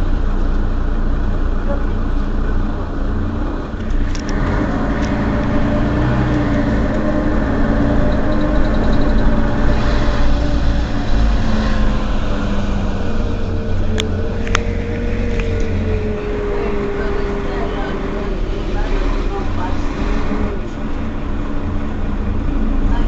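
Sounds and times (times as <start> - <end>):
bus engine idling: 0.0 - 23.0.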